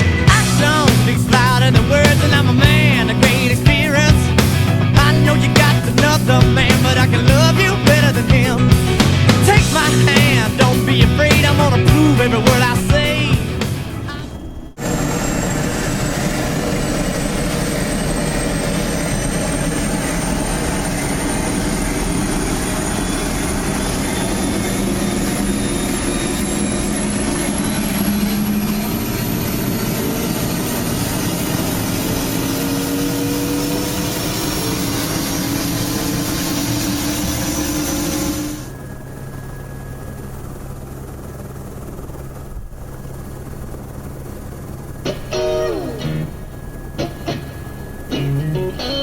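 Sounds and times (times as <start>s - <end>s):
high-pitched whine: 0.0s - 43.0s, 44.7s - 49.0s
helicopter engine and rotor: 0.0s - 49.0s.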